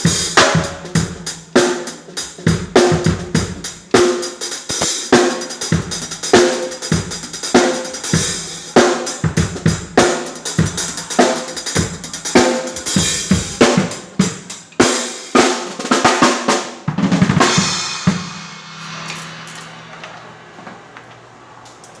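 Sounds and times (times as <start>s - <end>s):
cymbals ringing out: 0.0s - 15.3s, 17.3s - 22.0s
drum kit playing: 0.0s - 21.0s.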